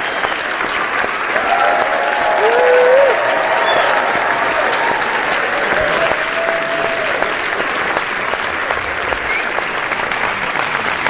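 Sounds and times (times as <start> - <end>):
crowd clapping: 0.0 - 11.0
faint crowd voices: 0.0 - 11.0.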